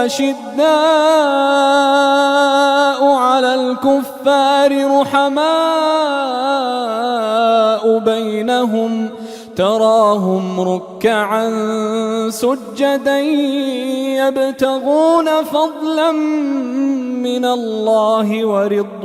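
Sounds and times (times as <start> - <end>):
person chanting melodically: 0.0 - 19.0.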